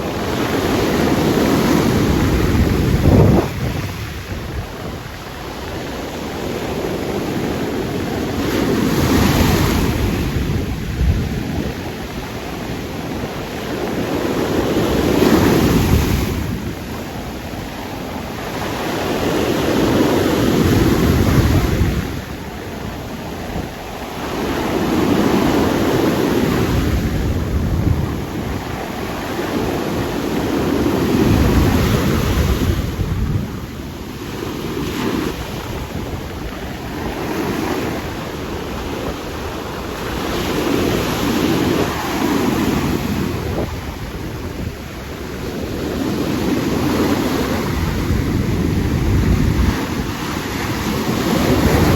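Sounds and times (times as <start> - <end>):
heavy surf breaking: 0.0 - 51.9
wind buffeting microphone: 0.0 - 51.9.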